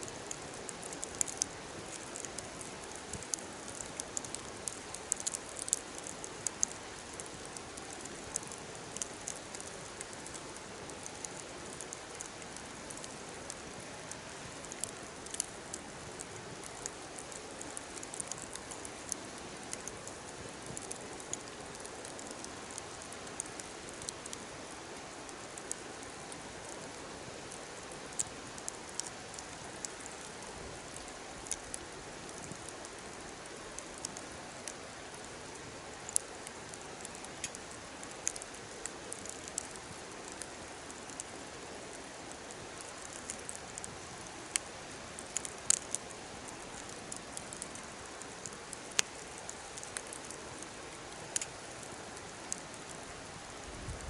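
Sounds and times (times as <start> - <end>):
soft hiss: 0.0 - 54.0
wood fire crackling: 0.0 - 54.0.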